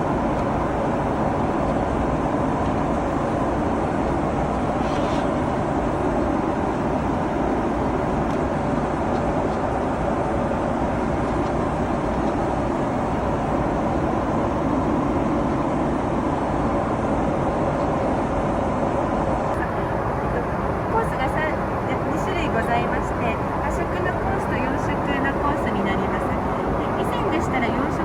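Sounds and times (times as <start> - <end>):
airliner cabin noise: 0.0 - 28.0.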